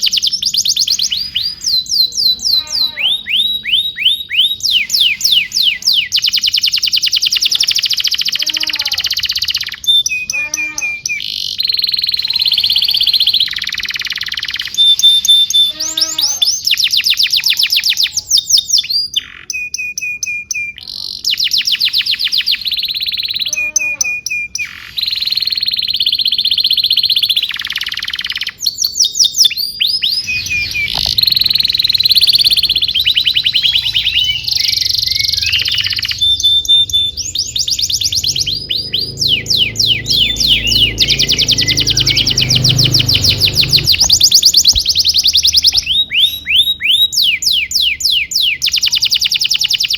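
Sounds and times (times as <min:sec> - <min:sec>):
canary singing: 0:00.0 - 0:49.9.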